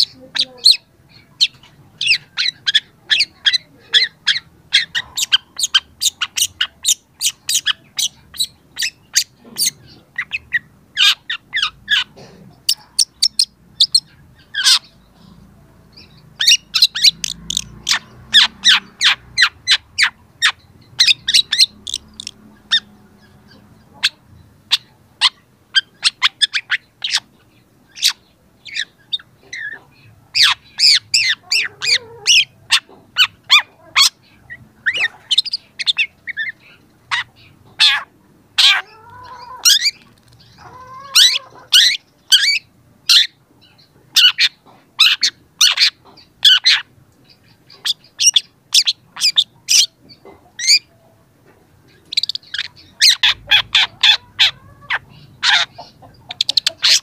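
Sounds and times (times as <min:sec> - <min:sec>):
harsh bird calls: 0:00.0 - 0:51.1, 0:51.7 - 0:57.0.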